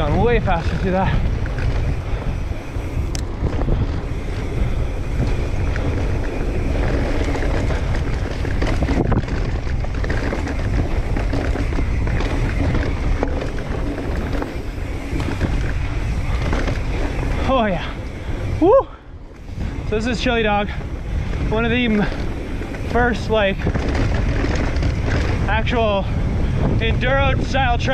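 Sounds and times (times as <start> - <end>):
bike clicks and knocks: 0.0 - 18.6, 20.8 - 25.9
bike tyre noise: 0.0 - 27.9
wind rushing over microphone: 0.0 - 27.9.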